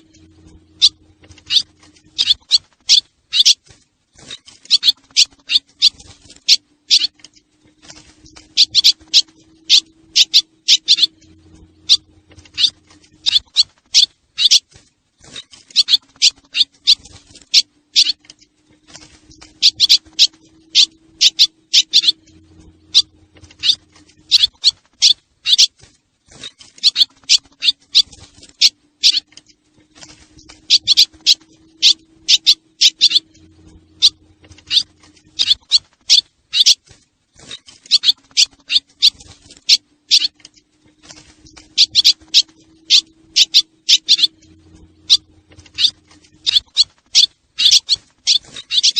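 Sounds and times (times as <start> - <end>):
faint low hum: 0.0 - 48.9
swallows chirping: 0.0 - 48.9.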